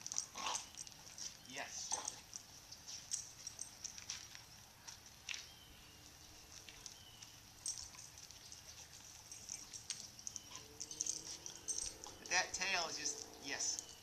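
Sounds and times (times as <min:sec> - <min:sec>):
light clicks and rustles: 0:00.0 - 0:14.0.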